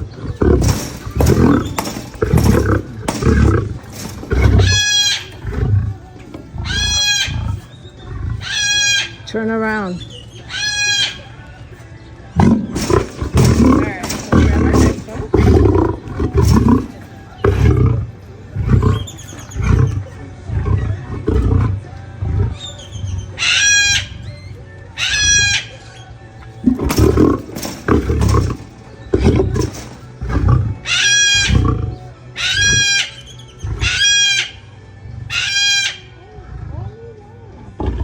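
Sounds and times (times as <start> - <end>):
lion grunting: 0.0 - 9.4, 12.3 - 38.0.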